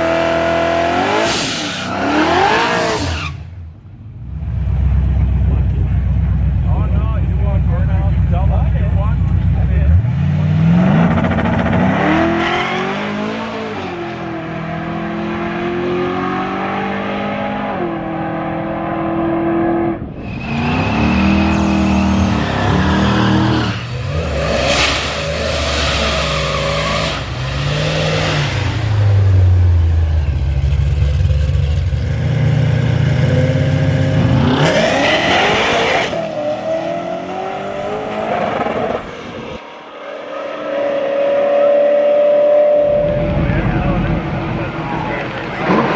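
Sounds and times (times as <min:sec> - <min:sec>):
car engine revving: 0:00.0 - 0:03.3, 0:03.9 - 0:45.9.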